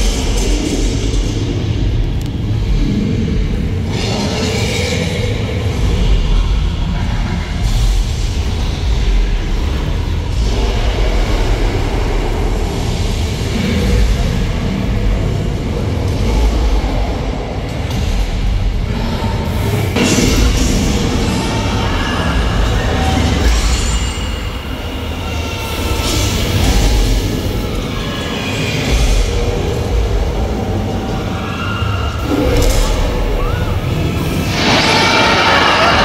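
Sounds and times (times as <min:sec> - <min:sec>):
deep rumble: 0:00.0 - 0:36.0.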